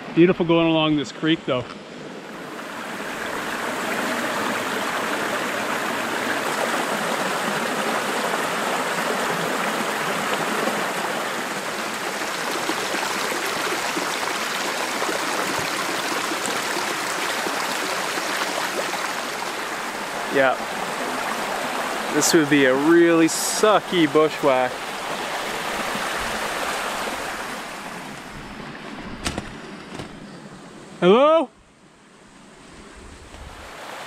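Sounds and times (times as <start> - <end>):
creek rushing over stones: 2.2 - 30.2, 33.2 - 34.0.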